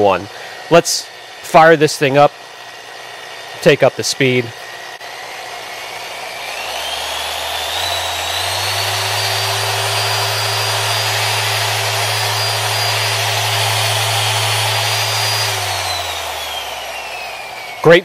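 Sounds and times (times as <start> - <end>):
polisher motor whine: 0.0 - 18.0.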